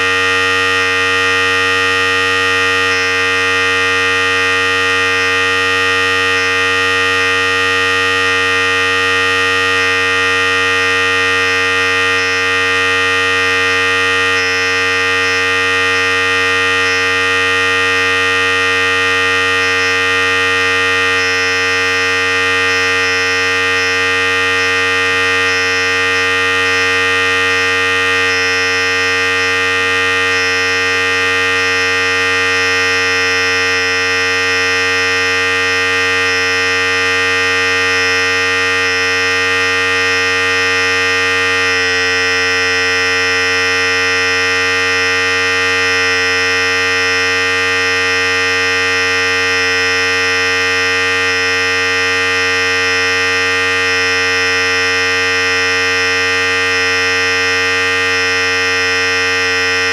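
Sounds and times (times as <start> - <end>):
hair clipper buzzing: 10.8 - 59.9.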